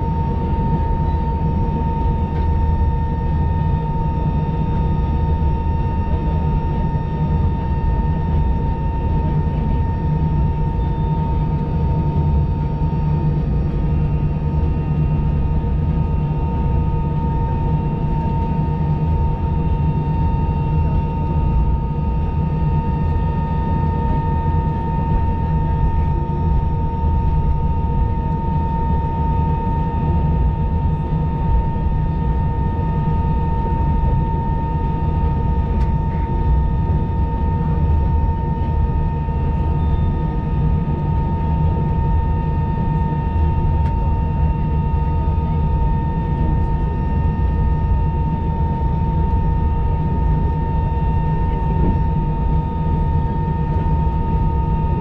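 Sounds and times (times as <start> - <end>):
aircraft engines idling rumble: 0.0 - 55.0
constant high whine: 0.0 - 55.0.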